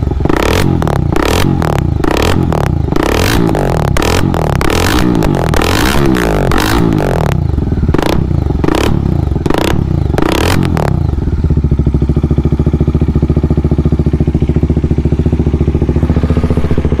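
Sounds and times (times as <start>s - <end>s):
motorcycle engine idling: 0.0s - 17.0s
motorcycle engine revving: 0.0s - 17.0s.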